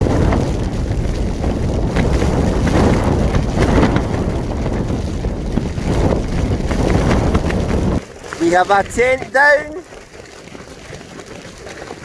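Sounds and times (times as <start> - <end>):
gusting wind buffeting microphone: 0.0 - 12.0.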